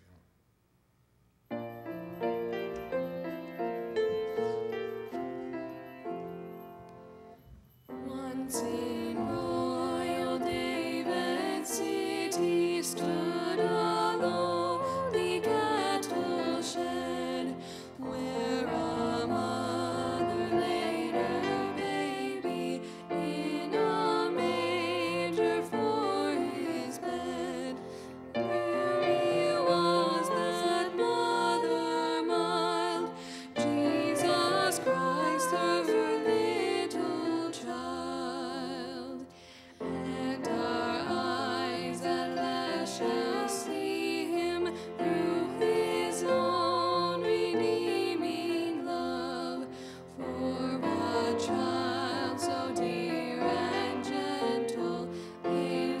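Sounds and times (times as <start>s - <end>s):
grand piano accompaniment: 1.5s - 56.0s
women singing: 7.9s - 39.3s, 39.9s - 56.0s.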